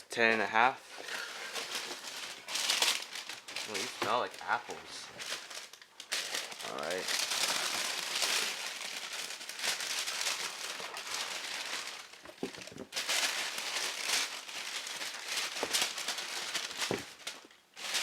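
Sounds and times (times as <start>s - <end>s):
paper crinkling and rustling: 0.9s - 18.0s.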